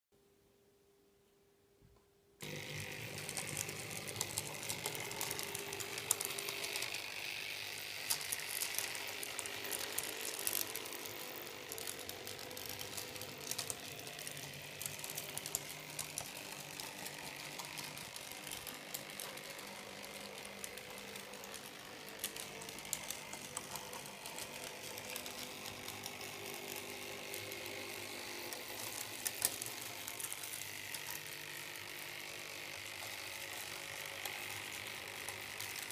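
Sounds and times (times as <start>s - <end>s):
model tram motors whirring: 2.4s - 35.9s.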